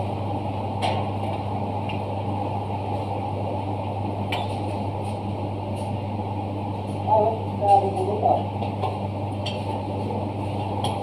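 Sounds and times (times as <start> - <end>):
machine mechanical hum: 0.0 - 11.0.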